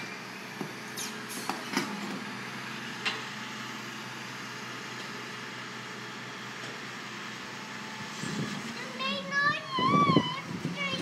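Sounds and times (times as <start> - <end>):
garbage truck engine hum: 0.0 - 11.0.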